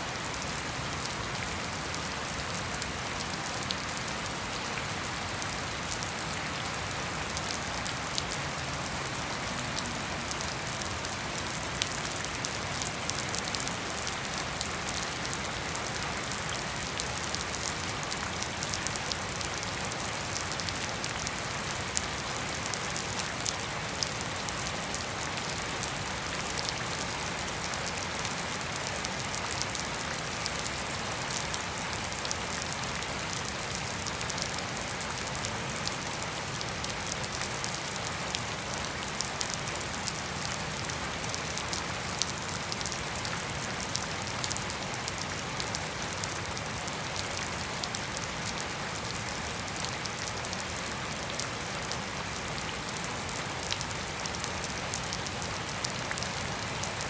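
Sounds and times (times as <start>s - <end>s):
rain falling on lawn and path: 0.0s - 57.0s.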